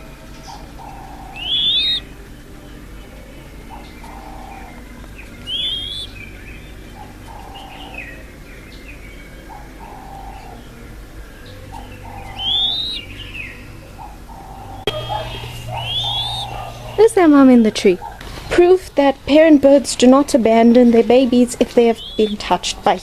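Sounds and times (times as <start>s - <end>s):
dove whistled calls: 0.0s - 18.5s, 21.0s - 23.0s
dove low hooting: 0.0s - 18.6s, 20.9s - 23.0s.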